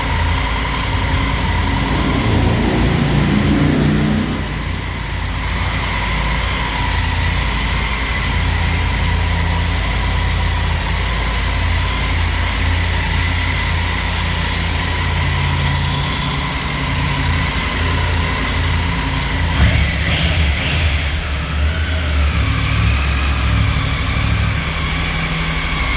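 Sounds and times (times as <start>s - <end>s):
motorcycle engine idling: 0.0s - 25.9s.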